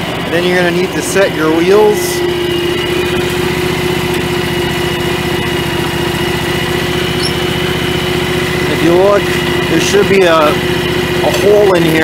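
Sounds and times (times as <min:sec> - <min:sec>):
garden tractor engine idling: 0:00.0 - 0:12.0.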